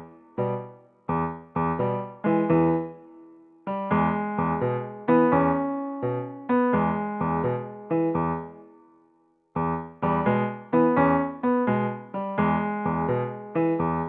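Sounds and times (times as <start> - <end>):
electric piano playing chords: 0.0 - 8.9, 9.5 - 14.0.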